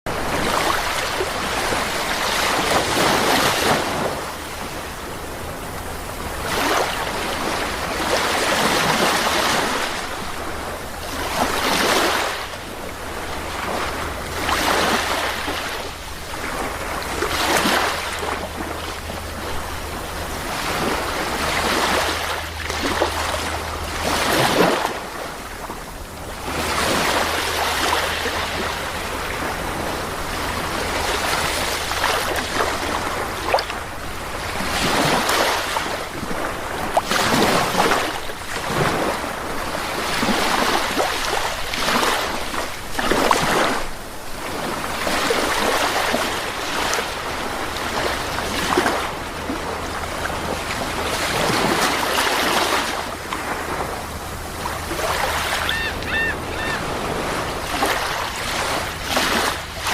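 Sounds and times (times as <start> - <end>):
sea waves breaking on beach: 0.1 - 59.9.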